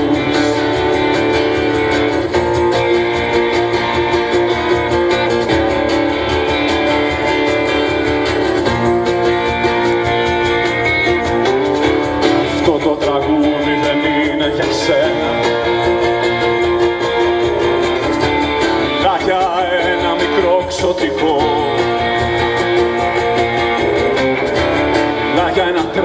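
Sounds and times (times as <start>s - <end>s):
bass guitar: 0.0s - 26.0s
bending lead guitar line: 0.0s - 26.0s
drums: 0.0s - 26.0s
electric guitar: 0.0s - 26.0s
strummed acoustic guitar: 0.0s - 26.0s.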